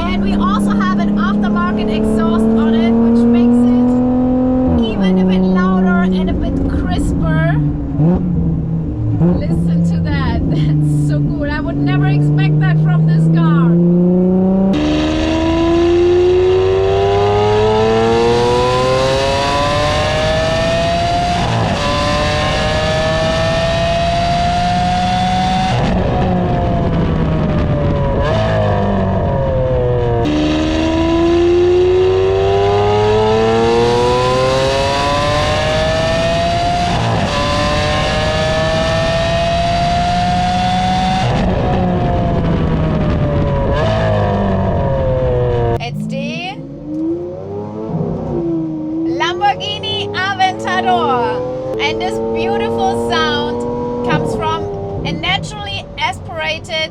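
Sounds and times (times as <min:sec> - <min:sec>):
sports car engine accelerating: 0:00.0 - 0:56.9.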